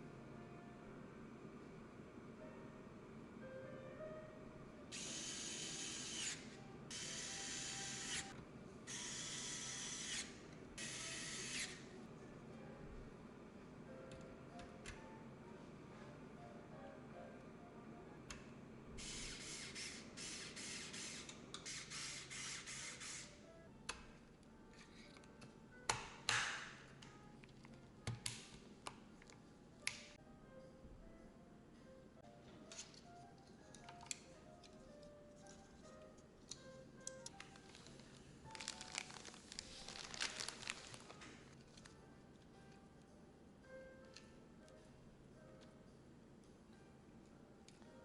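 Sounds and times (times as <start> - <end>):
faint background music: 0.0 - 48.0.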